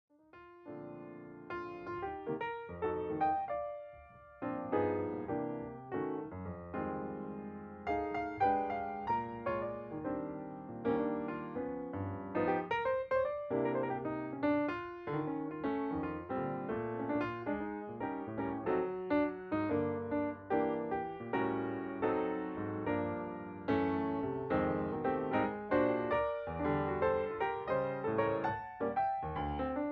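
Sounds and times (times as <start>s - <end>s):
gentle piano music: 0.2s - 29.9s.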